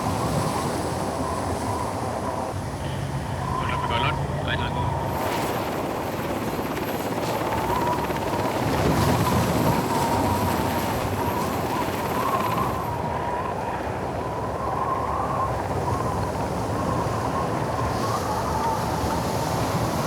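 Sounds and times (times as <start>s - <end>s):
helicopter rotor chop: 0.0s - 20.0s
helicopter turbine whine: 0.0s - 20.0s.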